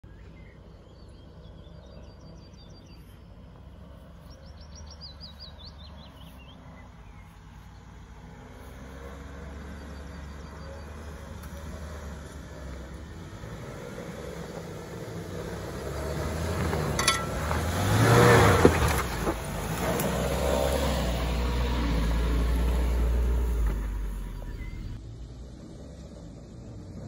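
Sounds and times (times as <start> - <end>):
birds singing: 0.0 - 25.0
car engine running: 0.4 - 27.0.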